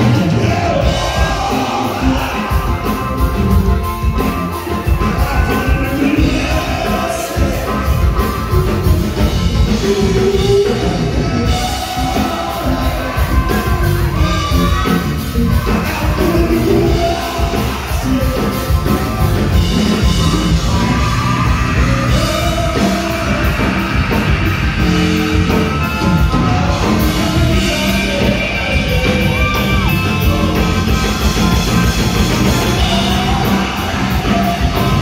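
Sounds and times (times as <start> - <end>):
men singing: 0.0 - 3.9, 4.8 - 35.0
bass guitar: 0.0 - 35.0
drums: 0.0 - 35.0
electric guitar: 0.0 - 35.0.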